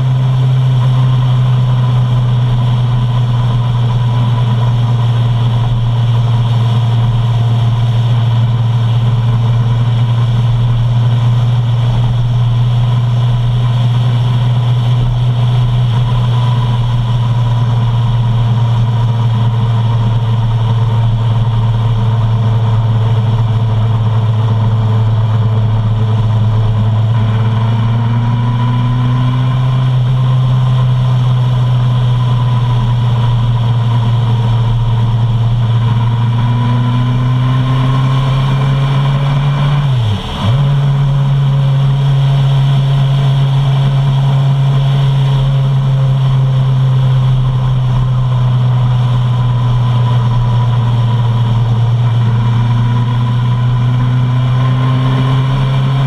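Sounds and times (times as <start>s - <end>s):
motorcycle engine cruising: 0.0s - 56.0s
road noise: 0.0s - 56.0s.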